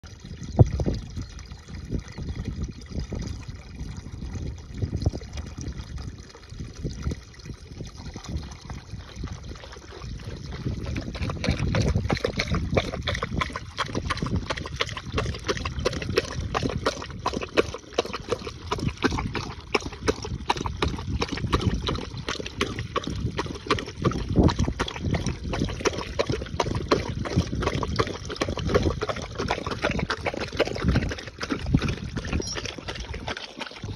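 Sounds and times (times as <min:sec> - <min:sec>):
water splashing into trough: 0:00.0 - 0:33.9.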